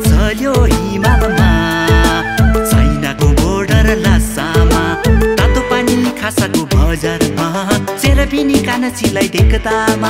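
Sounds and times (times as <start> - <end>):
man singing: 0.0 - 10.0.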